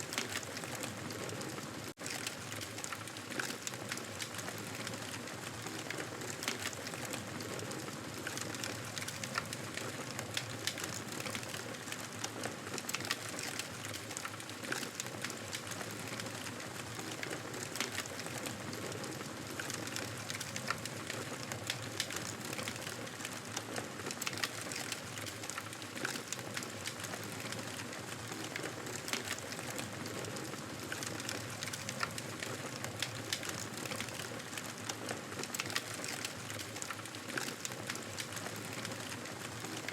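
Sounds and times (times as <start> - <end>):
burning wood crackling and popping: 0.0 - 39.9.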